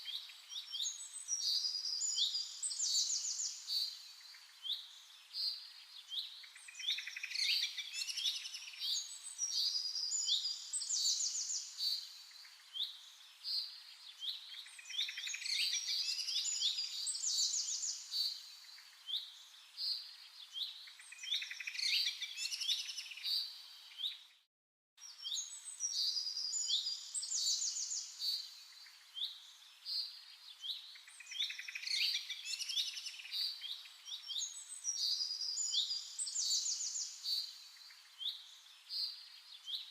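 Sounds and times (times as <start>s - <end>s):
small birds chirping and trilling: 0.0s - 24.4s, 25.0s - 39.9s.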